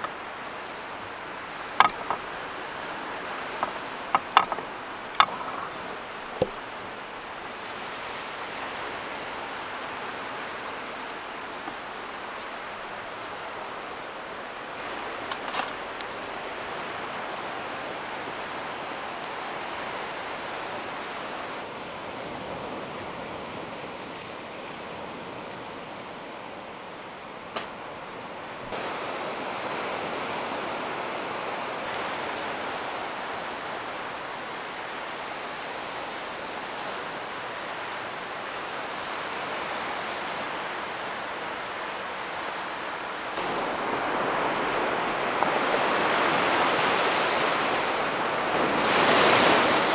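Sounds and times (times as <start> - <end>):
surf washing on shore: 0.0 - 49.9
wind: 0.0 - 49.9.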